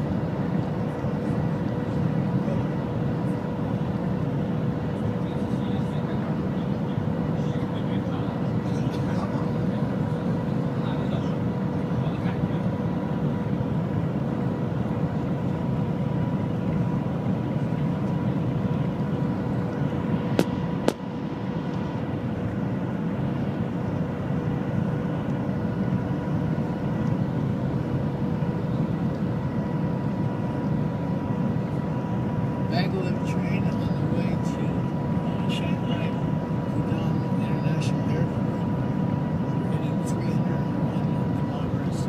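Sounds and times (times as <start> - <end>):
constant hum: 0.0 - 42.0.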